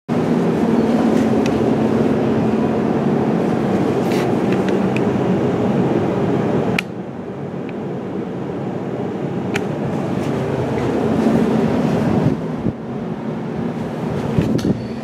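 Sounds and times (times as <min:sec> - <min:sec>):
mechanical rumble with low hum: 0:00.1 - 0:15.0.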